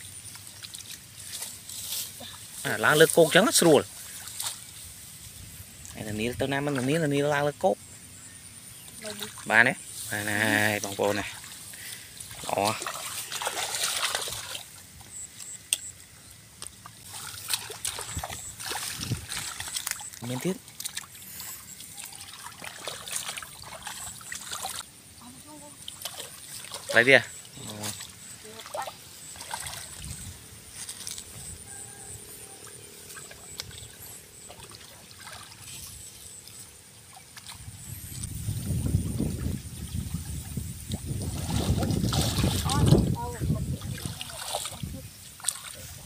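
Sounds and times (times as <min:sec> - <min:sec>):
muddy water sloshing and splashing: 0:00.0 - 0:07.6, 0:08.8 - 0:46.0.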